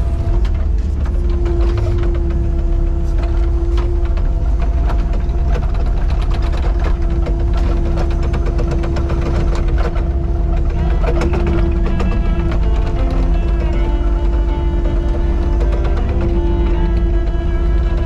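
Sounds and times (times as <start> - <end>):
excavator diesel engine whining: 0.0 - 18.0
machine clicks and rattles: 0.0 - 18.0.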